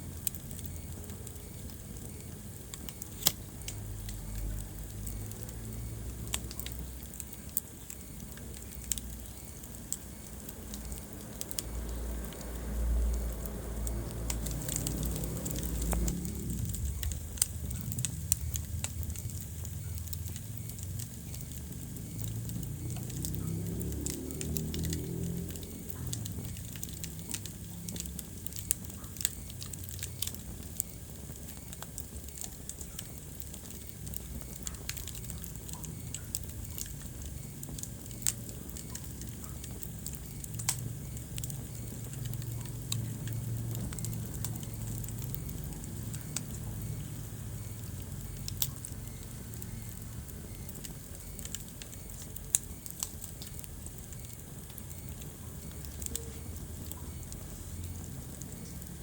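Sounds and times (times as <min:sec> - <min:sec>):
fire pops and snaps: 0:00.0 - 0:59.0
low rumble of burning fire: 0:00.0 - 0:59.0.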